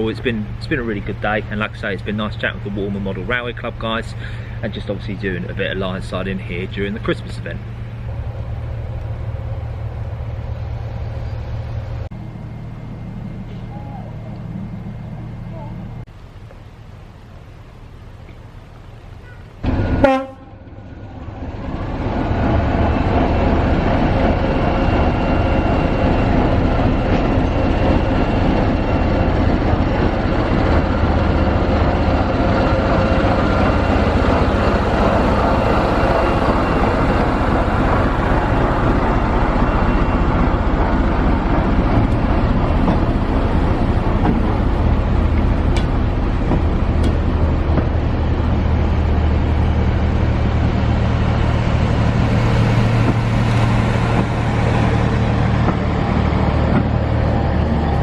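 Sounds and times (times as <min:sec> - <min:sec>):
locomotive pulling away: 0:00.0 - 0:58.0.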